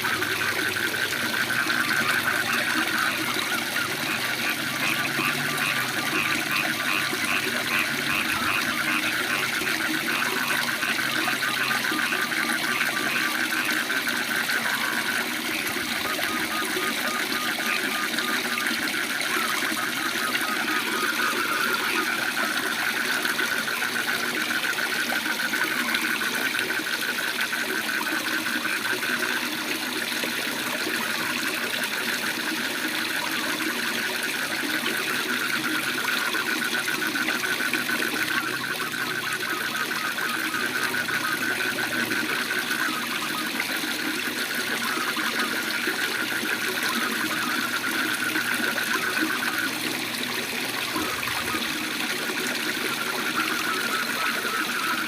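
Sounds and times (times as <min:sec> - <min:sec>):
frogs trilling: 0:00.0 - 0:55.0.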